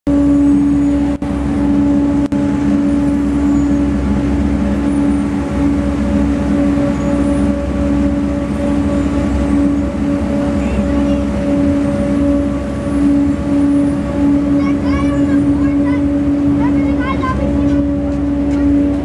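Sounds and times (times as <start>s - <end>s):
low rumble: 0.1s - 19.0s.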